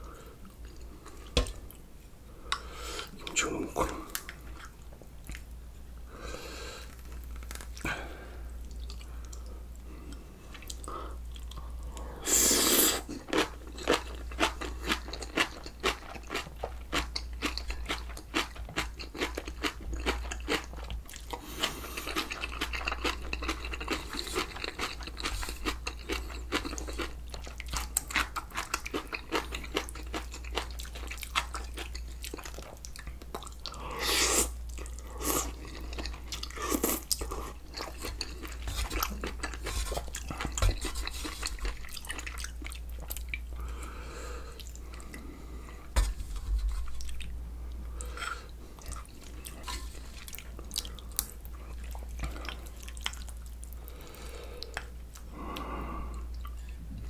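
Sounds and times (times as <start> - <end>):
crunchy vegetables chewing: 6.8 - 8.0, 8.6 - 43.8, 45.9 - 55.7.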